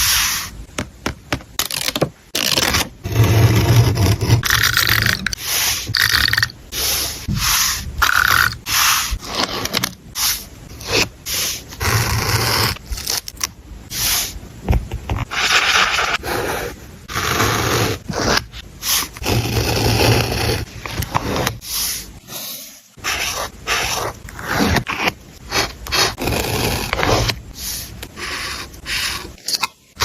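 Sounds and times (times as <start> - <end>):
paper scraping and rubbing: 2.4 - 13.3, 15.2 - 29.6.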